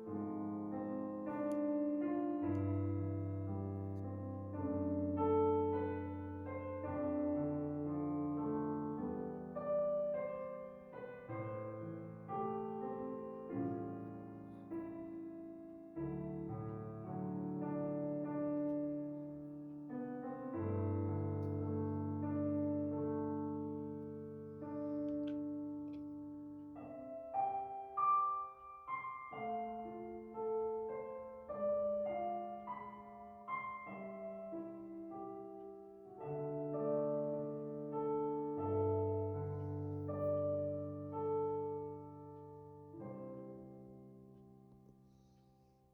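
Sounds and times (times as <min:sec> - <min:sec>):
soft slow piano chords: 0:00.0 - 0:45.9.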